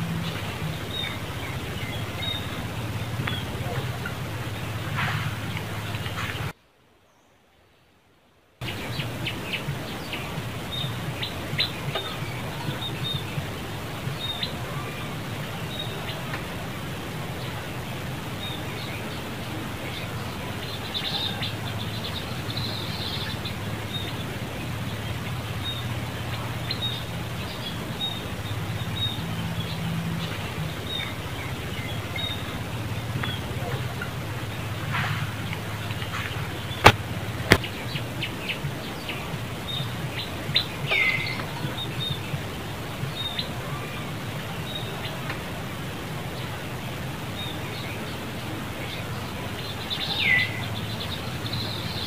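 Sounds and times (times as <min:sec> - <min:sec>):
low hum: 0:00.0 - 0:06.6, 0:08.6 - 0:52.0
steady hiss: 0:00.0 - 0:07.3, 0:08.0 - 0:52.0.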